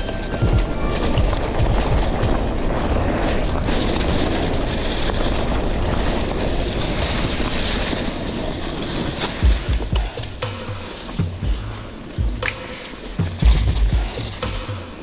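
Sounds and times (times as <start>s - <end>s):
tyres rolling on dirt: 0.0s - 15.0s
wind on microphone: 0.0s - 15.0s.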